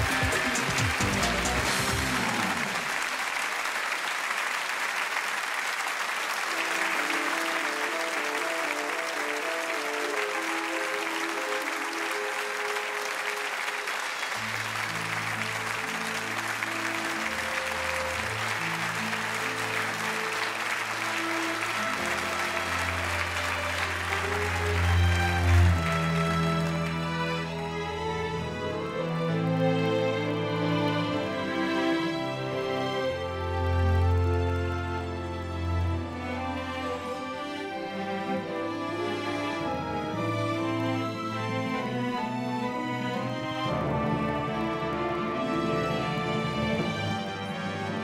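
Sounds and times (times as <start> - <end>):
music playing: 0.0 - 3.5, 6.3 - 48.0
audience applauding: 0.0 - 29.0, 30.3 - 48.0.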